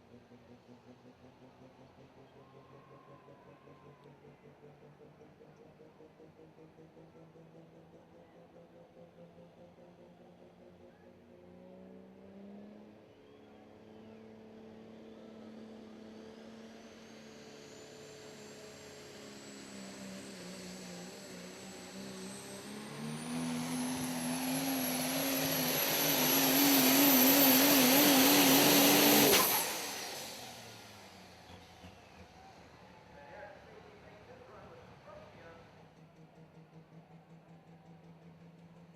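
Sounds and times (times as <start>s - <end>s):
diesel truck engine drone: 0.0s - 38.9s
turbocharger whine: 0.0s - 38.9s.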